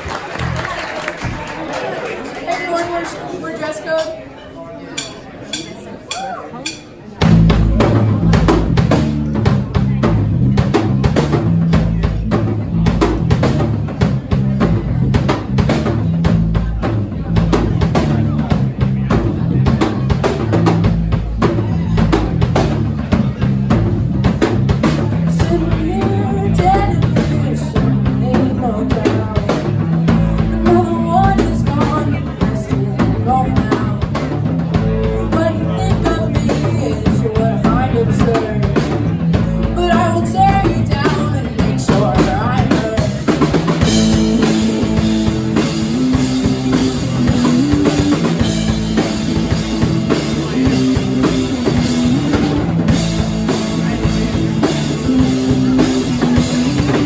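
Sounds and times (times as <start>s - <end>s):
live rock band playing: 0.0s - 3.1s, 5.0s - 57.0s
drum kit beat: 5.0s - 57.0s.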